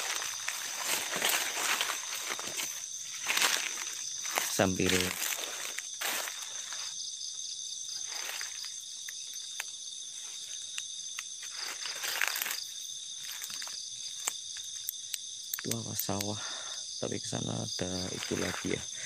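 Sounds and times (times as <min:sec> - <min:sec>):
footsteps rustling through undergrowth: 0:00.0 - 0:14.3, 0:17.9 - 0:19.0
crickets and insects trilling: 0:00.0 - 0:19.0.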